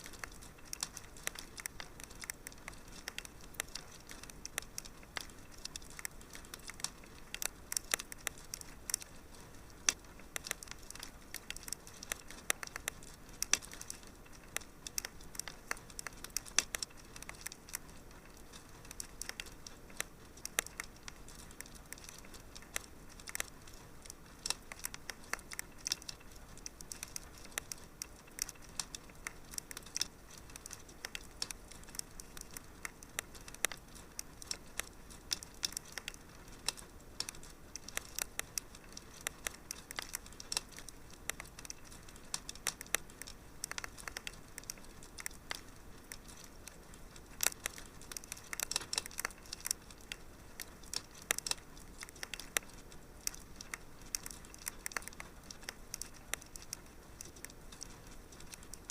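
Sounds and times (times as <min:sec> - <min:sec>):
fire crackling: 0:00.0 - 0:58.9.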